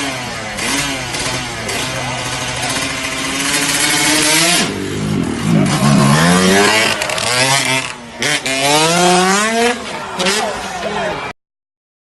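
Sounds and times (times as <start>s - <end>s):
engine revving: 0.0s - 10.6s.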